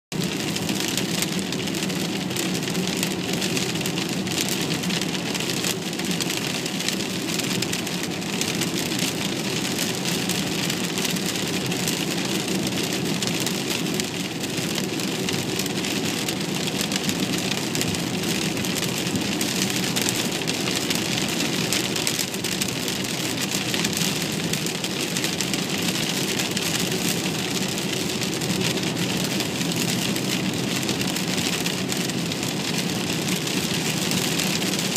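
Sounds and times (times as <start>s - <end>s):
rain on car windscreen: 0.1s - 34.9s
car driving on wet road: 0.2s - 34.9s.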